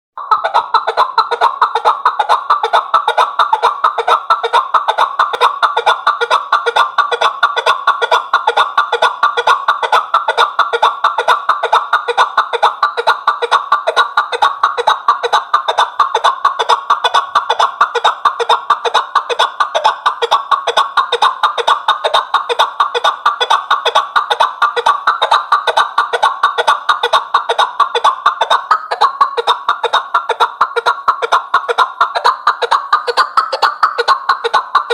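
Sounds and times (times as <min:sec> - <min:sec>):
partridge clucking call: 0:00.2 - 0:34.9.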